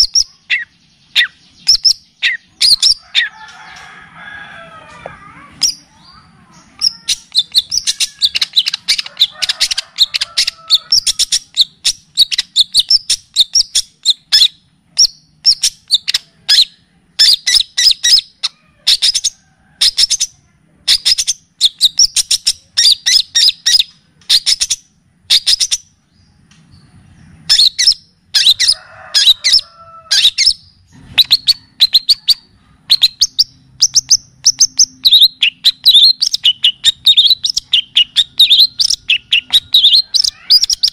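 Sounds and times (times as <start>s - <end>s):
bird warbling: 0.0s - 25.9s, 27.5s - 40.9s
songbird chirping: 0.0s - 40.9s.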